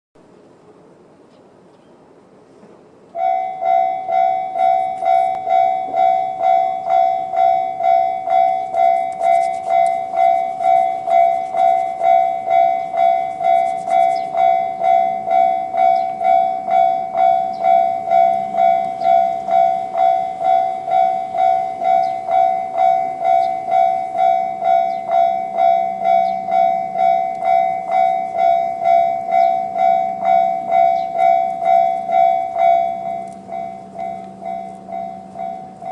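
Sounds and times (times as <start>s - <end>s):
level crossing warning bell: 3.1s - 35.9s.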